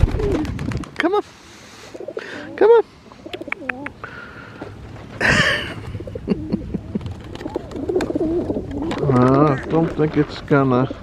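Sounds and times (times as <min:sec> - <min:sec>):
pigeons cooing: 0:00.0 - 0:00.8, 0:01.4 - 0:10.0.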